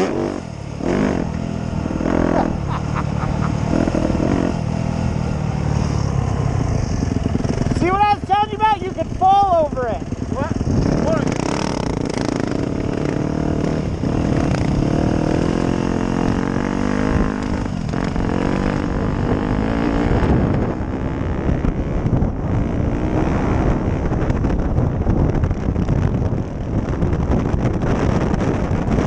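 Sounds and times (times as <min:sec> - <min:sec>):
dirt bike engine revving: 0:00.0 - 0:29.0
wind buffeting microphone: 0:00.0 - 0:29.0.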